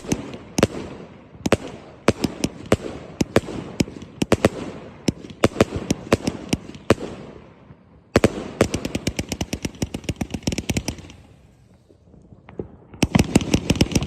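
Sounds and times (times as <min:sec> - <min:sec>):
firework cake firing: 0:00.0 - 0:14.0.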